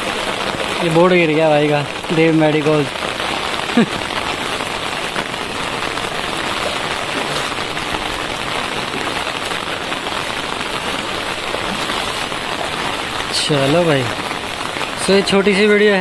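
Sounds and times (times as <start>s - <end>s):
rain falling on standing water: 0.0s - 16.0s.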